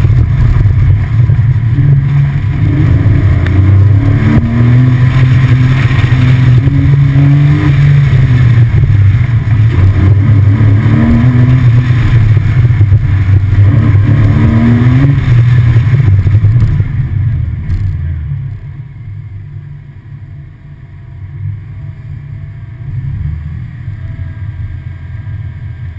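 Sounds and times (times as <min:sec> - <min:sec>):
car engine under hard throttle: 0:00.0 - 0:25.9.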